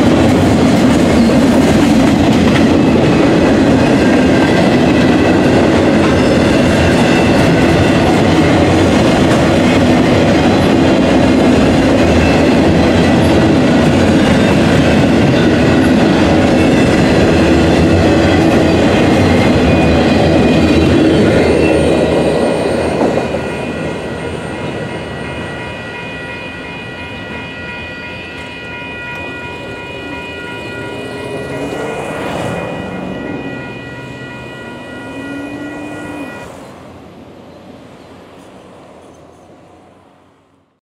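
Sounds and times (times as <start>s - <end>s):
crossing bell ringing: 0.0s - 36.7s
train wheels rumbling: 0.0s - 40.1s.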